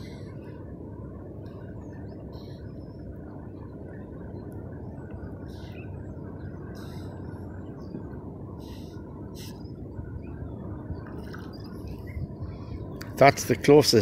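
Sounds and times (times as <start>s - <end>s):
small waves lapping on a hull: 0.0s - 14.0s
wind on microphone: 0.0s - 14.0s.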